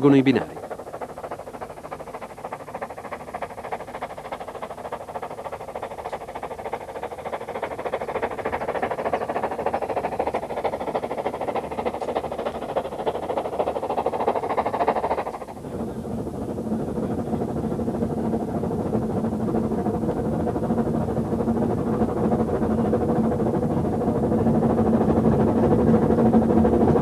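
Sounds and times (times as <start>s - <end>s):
steam locomotive clatter: 0.0s - 27.0s.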